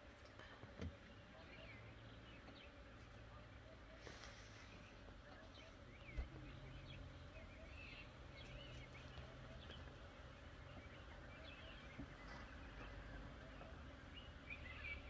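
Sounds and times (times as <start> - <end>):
low steady hum: 0.0 - 15.0
bird calls: 0.8 - 15.0.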